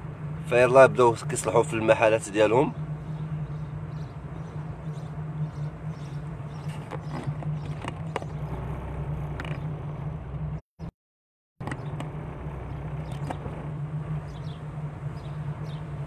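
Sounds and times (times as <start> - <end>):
car engine and road noise: 0.0 - 10.9, 11.6 - 16.0.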